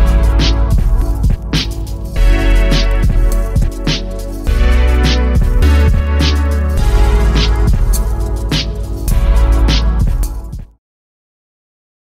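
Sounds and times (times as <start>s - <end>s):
music with heavy bass beat: 0.0s - 10.8s.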